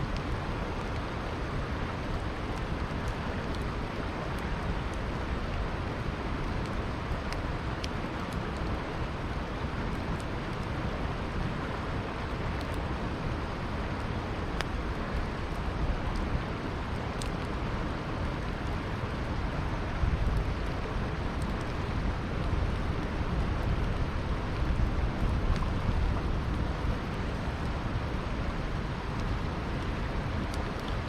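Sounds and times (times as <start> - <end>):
river flowing: 0.0 - 31.0
campfire crackling and popping: 0.1 - 17.6, 18.2 - 31.0.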